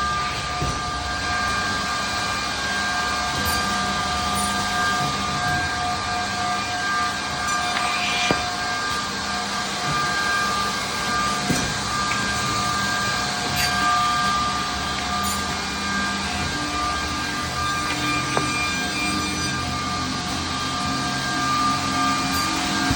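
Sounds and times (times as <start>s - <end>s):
edge banding machine motor whine: 0.0s - 22.9s.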